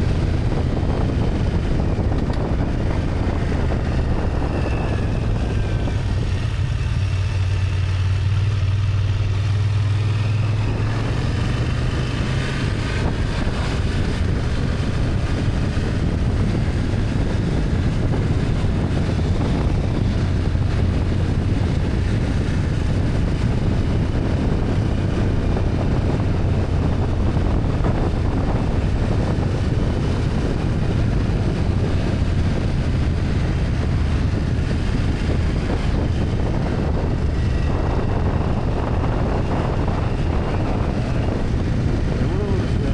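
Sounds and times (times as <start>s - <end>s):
motorcycle engine hum: 0.0s - 42.9s
wind and road noise: 0.0s - 42.9s.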